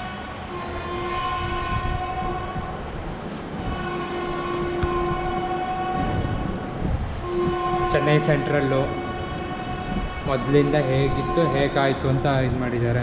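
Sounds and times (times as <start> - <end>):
train horn blasts: 0.0 - 2.8, 3.5 - 13.0.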